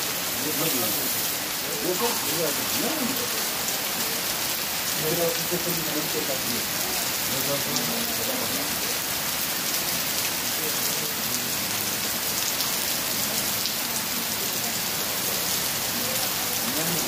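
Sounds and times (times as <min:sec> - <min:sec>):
heavy rain on stone patio: 0:00.0 - 0:17.0
water pouring off roof eaves: 0:00.0 - 0:17.0.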